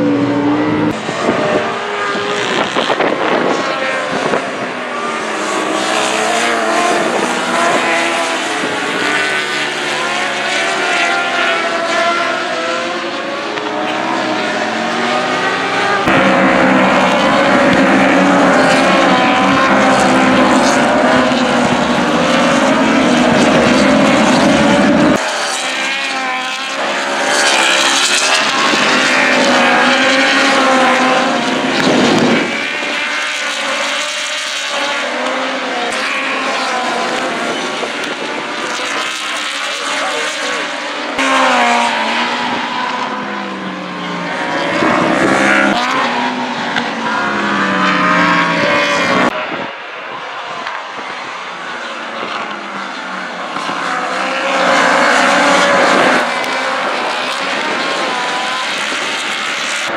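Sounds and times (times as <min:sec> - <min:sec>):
racing motorcycles passing: 0:00.0 - 0:59.9.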